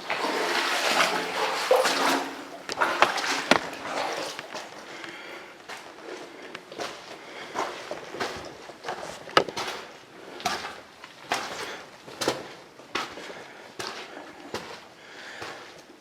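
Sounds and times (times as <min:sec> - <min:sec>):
footsteps on cave floor: 0:00.2 - 0:16.0.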